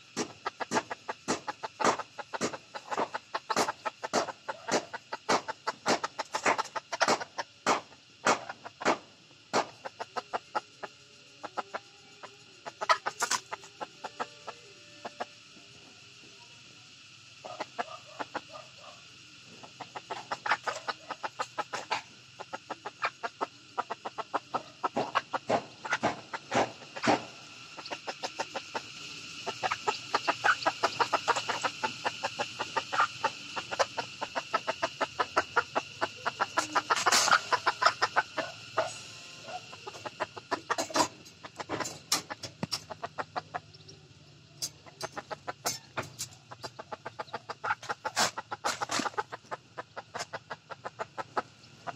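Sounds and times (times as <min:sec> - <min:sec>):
hen and chicks clucking and peeping: 0:00.0 - 0:51.9.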